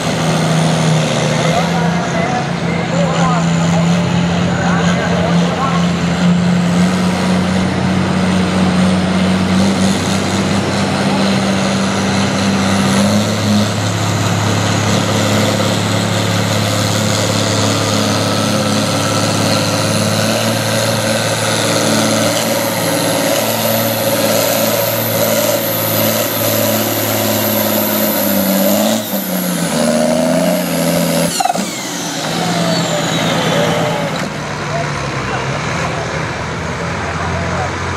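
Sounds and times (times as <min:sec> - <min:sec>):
tractor engine under load: 0:00.0 - 0:37.9.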